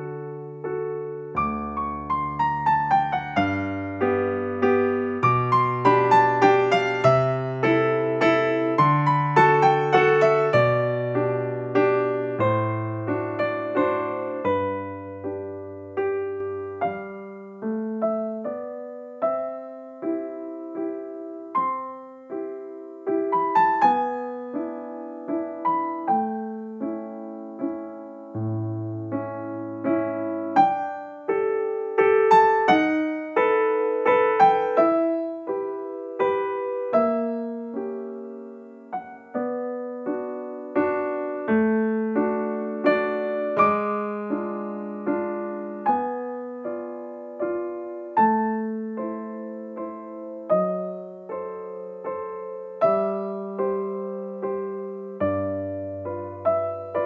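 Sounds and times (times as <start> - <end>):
slow piano music: 0.0 - 57.0.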